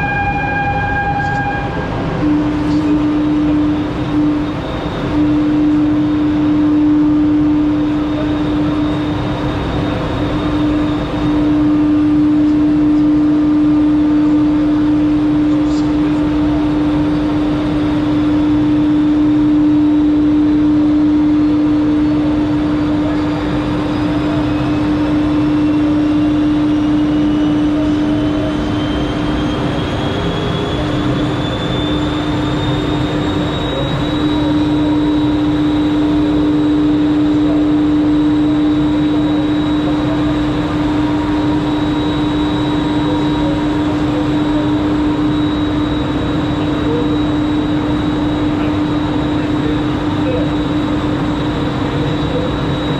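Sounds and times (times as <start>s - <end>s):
machinery hum with high whine: 0.0s - 52.9s.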